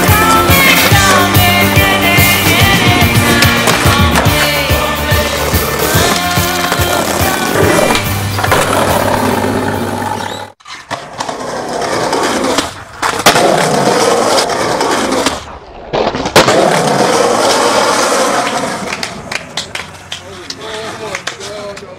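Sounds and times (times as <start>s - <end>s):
skateboard wheels rolling on pavement: 0.0s - 21.9s.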